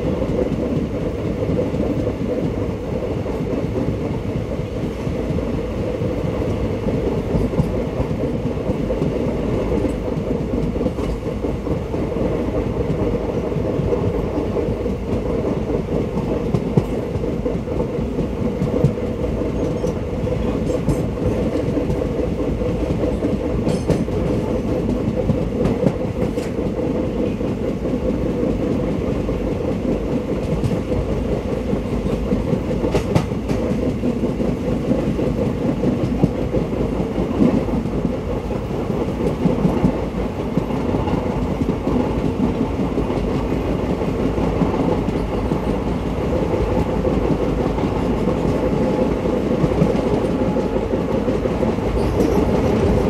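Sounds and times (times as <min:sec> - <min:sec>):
rumble of wheels on rails: 0:00.0 - 0:53.0.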